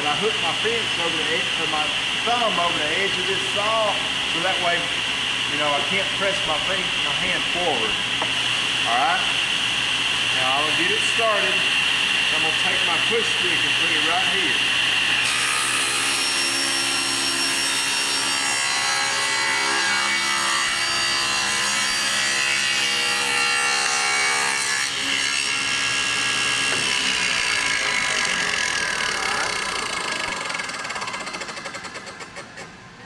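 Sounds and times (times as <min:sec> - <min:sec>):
table saw cutting wood: 0:00.0 - 0:32.8.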